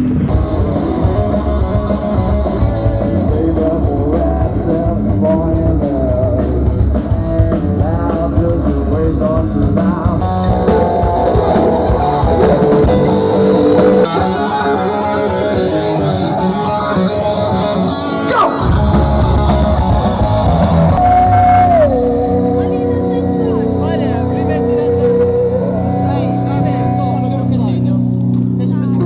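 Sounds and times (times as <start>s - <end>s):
drum kit: 0.0s - 14.2s, 18.3s - 28.7s
guitars: 0.0s - 29.0s
rock band playing: 0.0s - 29.0s.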